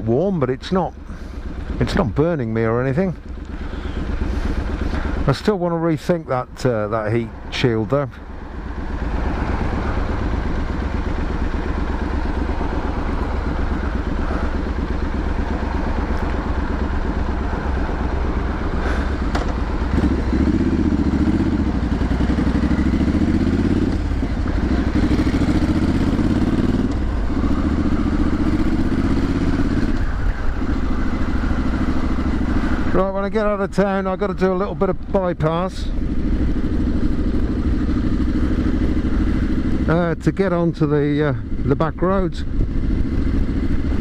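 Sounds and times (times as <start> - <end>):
motorcycle engine and exhaust: 0.0 - 44.0.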